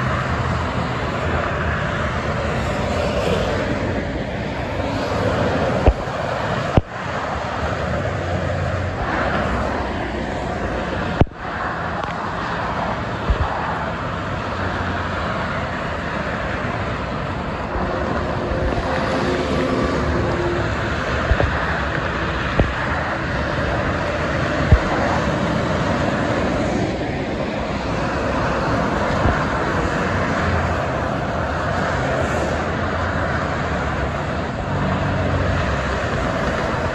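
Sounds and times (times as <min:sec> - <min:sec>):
expressway traffic: 0:00.0 - 0:36.9.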